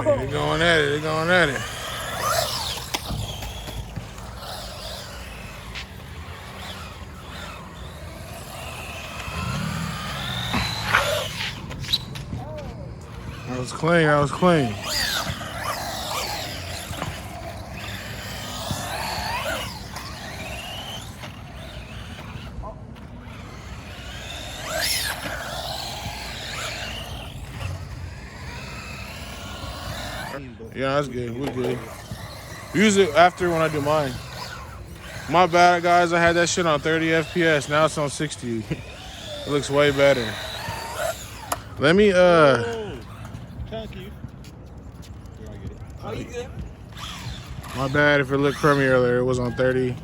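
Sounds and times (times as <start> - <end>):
toy truck electric motors whining: 0.0 - 50.0.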